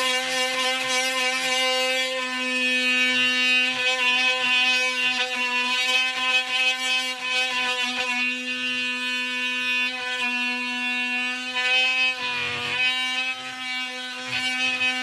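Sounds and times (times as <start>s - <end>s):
oscillating multi-tool buzzing: 0.0s - 15.0s.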